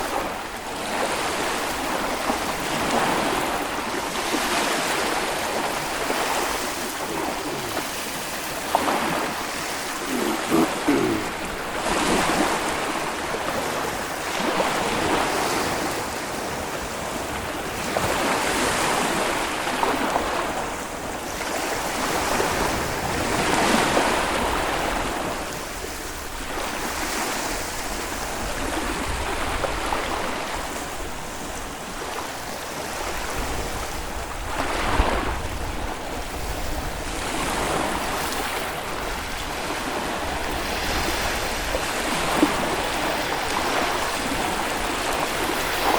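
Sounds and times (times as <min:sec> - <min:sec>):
waves breaking on shore: 0:00.0 - 0:45.9.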